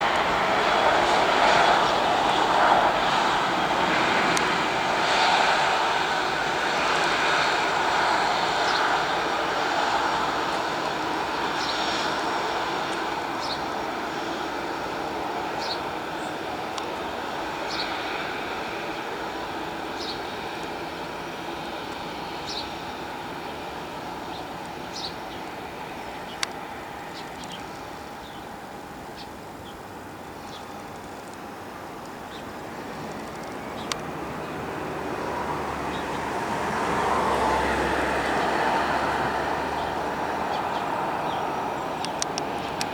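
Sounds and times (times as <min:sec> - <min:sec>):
jet engines whine and rumble: 0:00.0 - 0:42.9.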